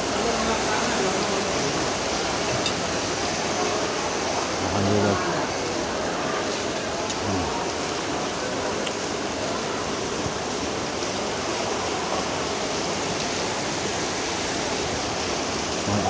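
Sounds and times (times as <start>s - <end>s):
falling water rushing: 0.0s - 16.0s.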